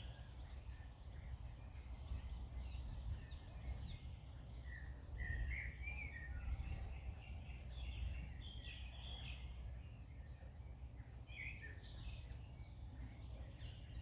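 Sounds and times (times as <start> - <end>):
low rumble of wind: 0.0 - 14.0.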